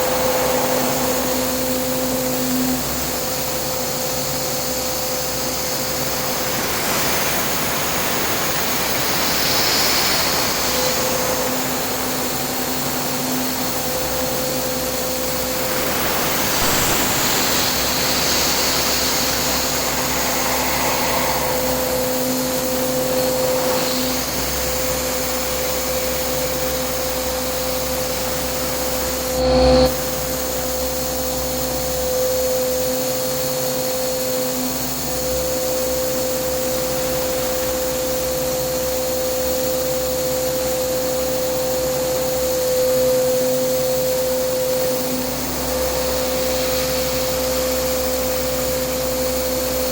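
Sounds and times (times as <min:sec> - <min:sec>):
milling machine whine over hiss: 0:00.0 - 0:49.9.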